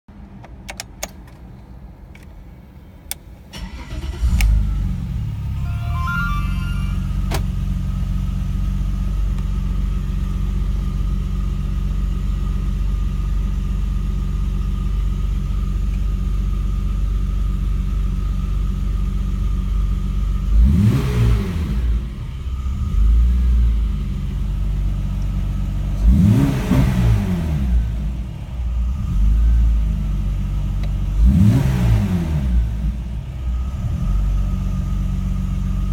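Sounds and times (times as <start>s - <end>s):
car engine starting and idling: 0.1s - 35.9s.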